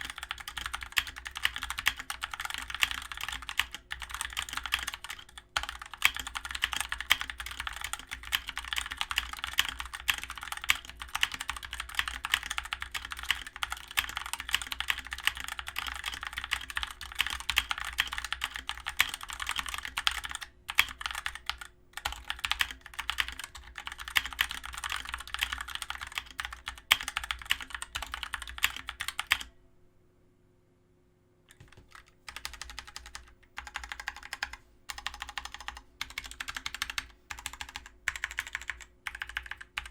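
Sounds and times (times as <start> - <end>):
mechanical keyboard typing: 0.0 - 29.5, 31.5 - 39.9.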